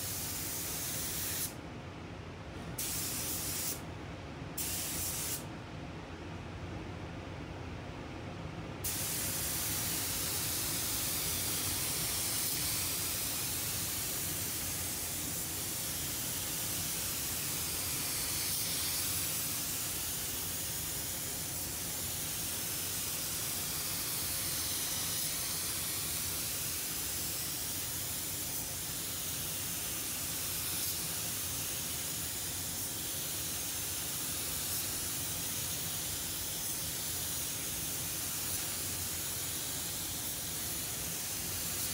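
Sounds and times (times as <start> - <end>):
spray gun hissing: 0.0 - 1.6, 2.8 - 3.8, 4.6 - 5.4, 8.8 - 41.9.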